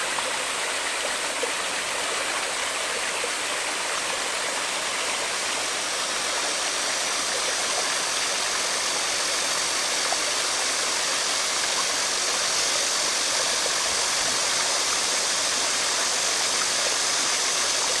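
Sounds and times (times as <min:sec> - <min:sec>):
aerator churning water: 0:00.0 - 0:18.0.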